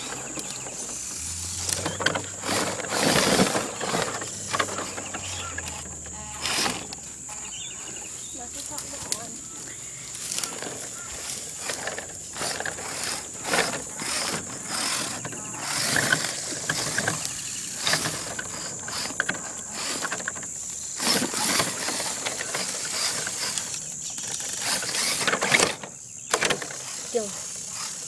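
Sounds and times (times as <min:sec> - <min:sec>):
rc car motor whirring: 0:00.0 - 0:28.0.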